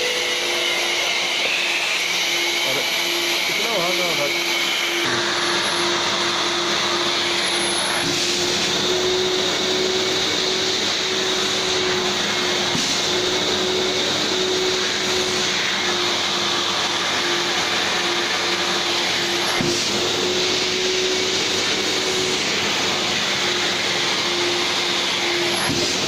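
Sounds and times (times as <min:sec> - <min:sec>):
vacuum cleaner motor hum: 0:00.0 - 0:26.0.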